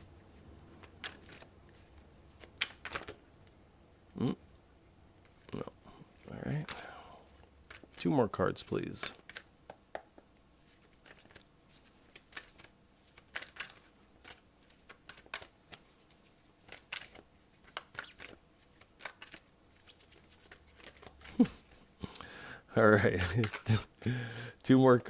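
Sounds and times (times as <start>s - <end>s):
cards being shuffled: 0.1s - 3.2s, 5.3s - 22.2s, 23.0s - 24.0s.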